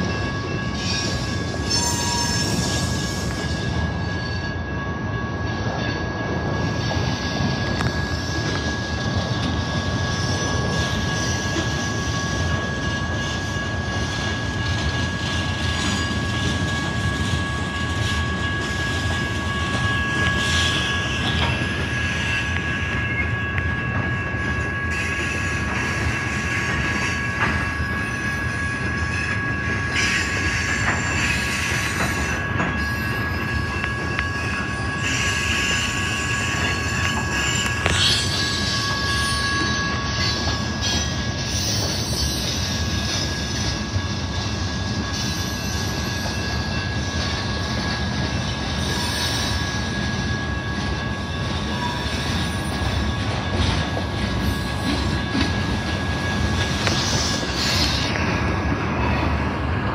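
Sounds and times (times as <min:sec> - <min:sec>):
train wheels rolling on rails: 0:00.0 - 0:59.9
high-pitched wheel squeal: 0:00.2 - 0:06.1, 0:06.7 - 0:59.3.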